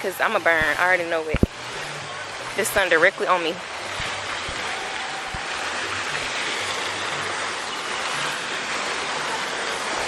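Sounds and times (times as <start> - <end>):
rush of moving water: 0.0 - 10.0.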